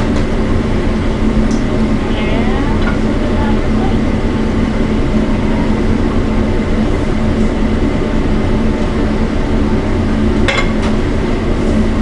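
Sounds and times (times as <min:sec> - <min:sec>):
kitchen ventilation roar: 0:00.0 - 0:12.0.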